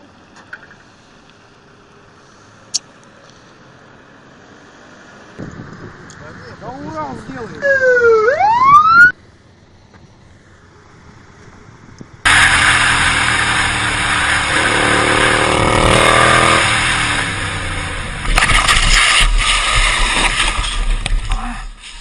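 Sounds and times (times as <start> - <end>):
vehicle engine at speed: 0.0 - 21.6.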